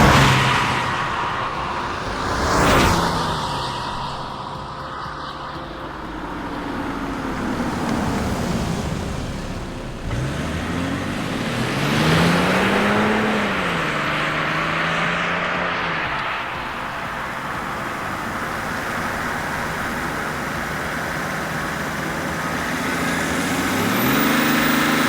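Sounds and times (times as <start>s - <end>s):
diesel engine accelerating: 0.0s - 25.0s.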